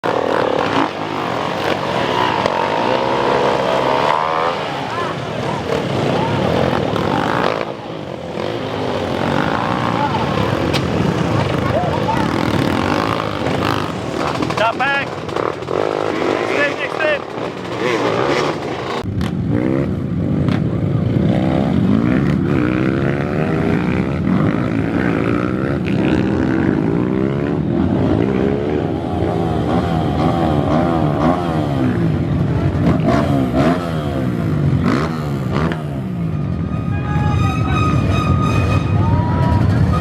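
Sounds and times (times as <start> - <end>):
motocross engines revving: 0.0 - 40.0.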